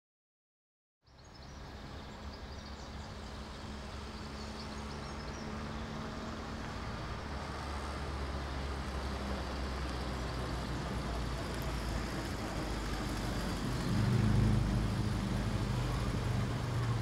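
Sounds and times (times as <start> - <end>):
car engine driving closer: 1.6 - 17.0.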